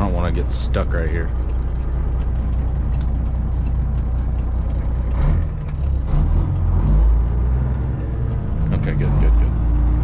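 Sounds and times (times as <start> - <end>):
truck diesel engine droning: 0.0 - 10.0.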